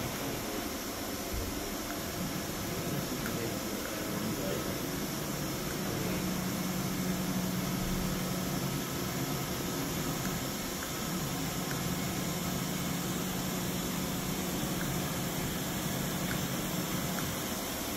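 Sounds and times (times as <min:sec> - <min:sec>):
machine hum: 0:00.0 - 0:17.9.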